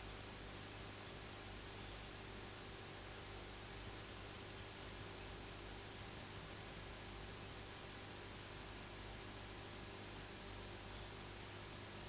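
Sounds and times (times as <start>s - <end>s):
low mains hum: 0.0s - 12.0s.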